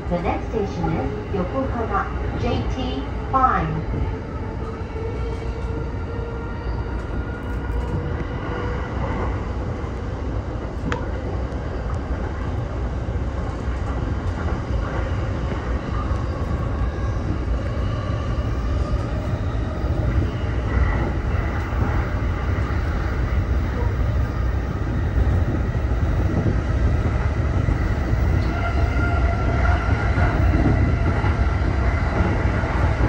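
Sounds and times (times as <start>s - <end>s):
train rolling noise: 0.0s - 33.0s.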